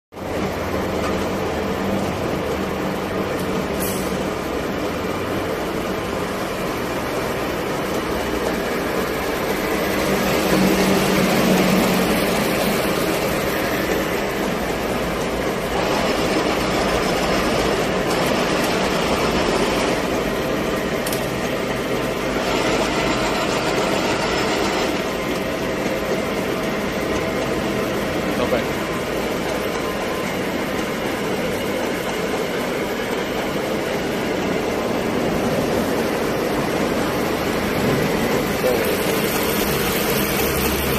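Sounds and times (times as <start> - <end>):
milling machine whirring: 0.2 - 40.9.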